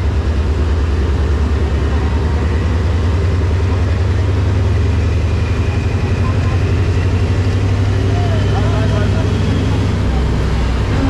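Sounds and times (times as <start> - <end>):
locomotive engine idling: 0.0 - 11.0.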